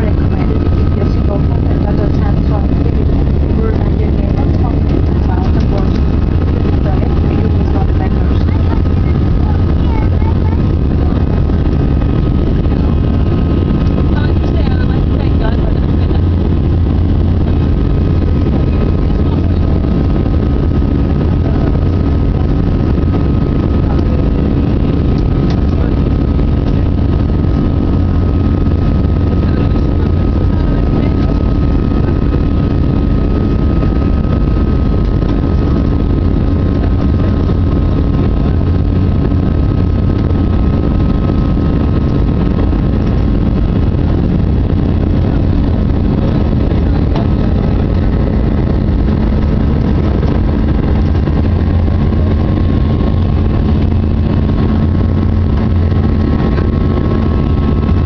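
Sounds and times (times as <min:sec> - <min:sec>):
faint steady hum: 0:00.0 - 0:58.0
jet engine cabin rumble: 0:00.0 - 0:58.0.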